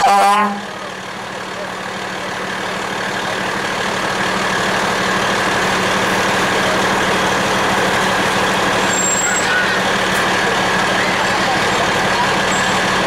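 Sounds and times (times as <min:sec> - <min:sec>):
fire truck engine running: 0:00.0 - 0:13.0.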